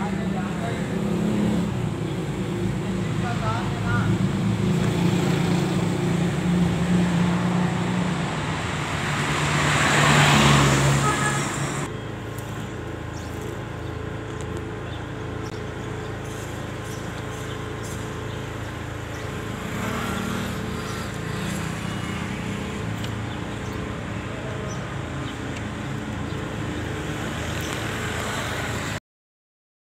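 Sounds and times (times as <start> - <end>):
truck engine running: 0.0 - 10.0, 10.6 - 28.9
street noise: 0.0 - 29.0.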